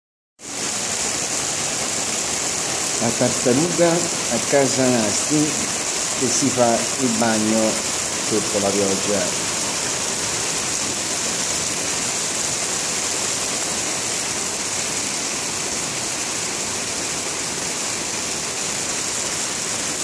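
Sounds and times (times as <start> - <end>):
rainwater pouring from gutter: 0.4 - 20.0
water splashing onto stones: 0.5 - 20.0.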